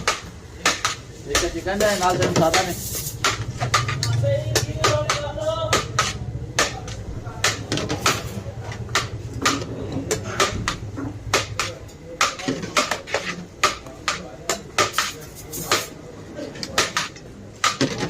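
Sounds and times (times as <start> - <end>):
metal utensils clinking on pots: 0.0 - 18.0.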